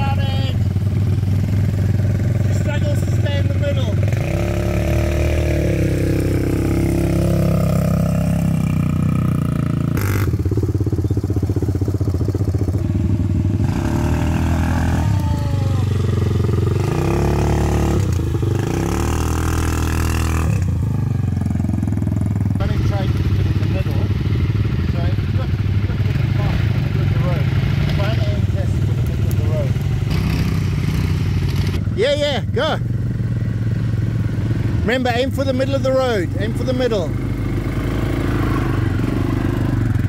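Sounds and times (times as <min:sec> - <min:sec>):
quad bike engines revving: 0:00.0 - 0:40.0.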